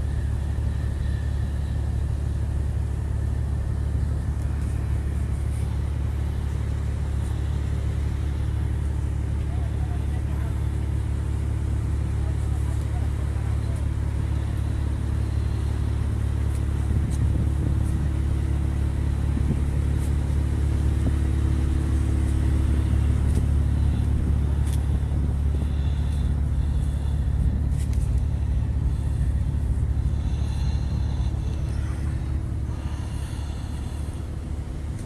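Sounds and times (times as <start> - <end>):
ship engine drone: 0.0 - 35.0.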